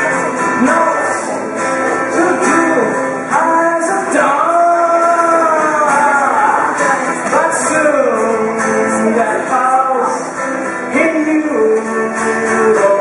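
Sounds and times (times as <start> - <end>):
man singing long notes: 0.0 - 13.0
strummed acoustic guitar: 0.0 - 13.0.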